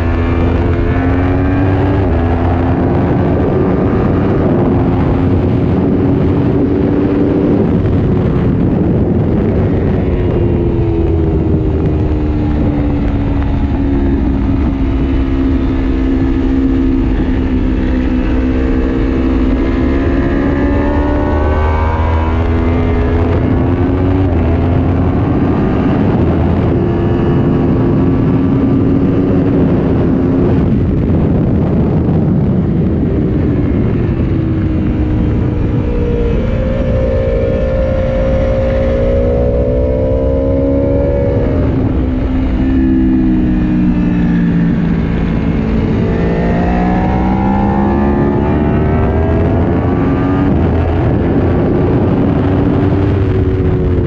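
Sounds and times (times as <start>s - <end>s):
motorcycle engine revving: 0.0s - 54.0s
wind on microphone: 0.0s - 54.0s.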